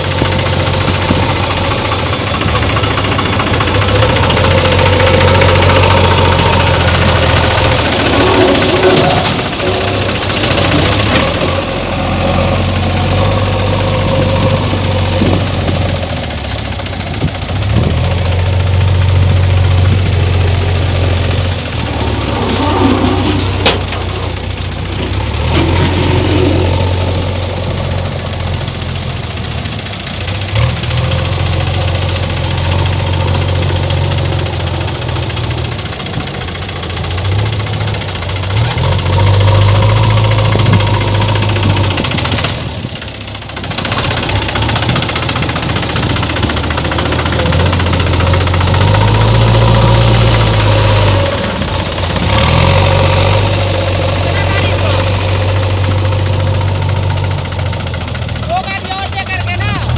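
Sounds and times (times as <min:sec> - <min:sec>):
diesel engines running: 0:00.0 - 0:59.9
loader bucket working: 0:00.0 - 0:59.9.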